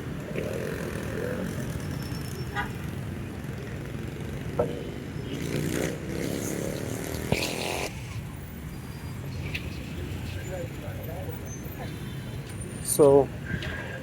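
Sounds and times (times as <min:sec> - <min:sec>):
traffic engine hum: 0:00.0 - 0:14.0
vehicles passing: 0:00.0 - 0:14.0.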